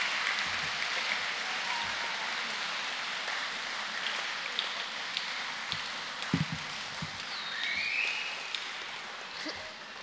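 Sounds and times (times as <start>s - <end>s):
audience applause in large hall: 0.0s - 10.0s.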